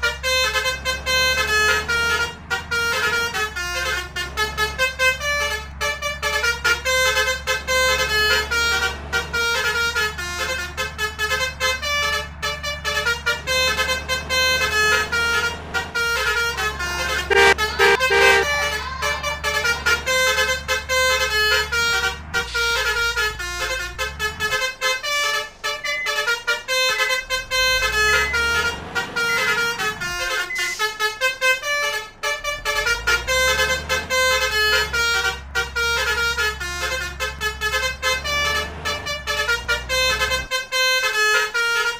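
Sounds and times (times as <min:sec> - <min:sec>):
low engine hum: 0:00.0 - 0:41.9
musical air horn playing a tune: 0:00.0 - 0:41.9.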